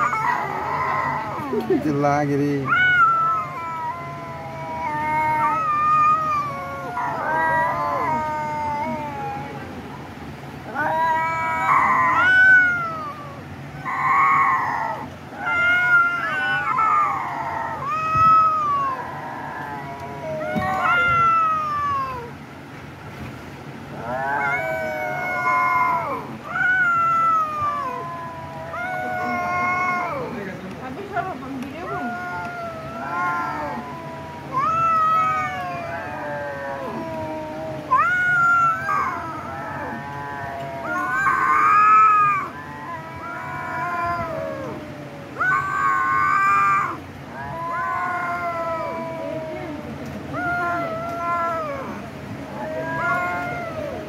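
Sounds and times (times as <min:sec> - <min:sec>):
kittens mewing: 0:00.0 - 0:09.8, 0:10.6 - 0:22.4, 0:23.9 - 0:54.0
cat meowing: 0:02.6 - 0:09.7, 0:10.7 - 0:22.4, 0:24.0 - 0:30.4, 0:31.7 - 0:54.0.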